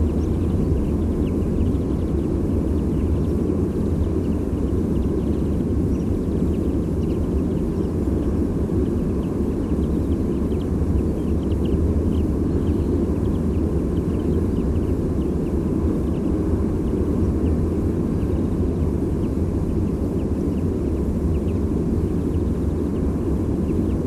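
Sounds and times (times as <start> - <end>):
small birds calling: 0.0 - 24.0.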